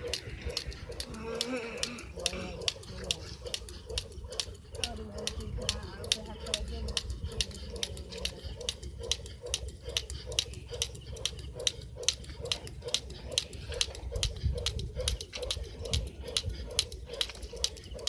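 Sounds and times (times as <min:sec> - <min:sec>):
jump rope slapping wet concrete: 0:00.0 - 0:18.0.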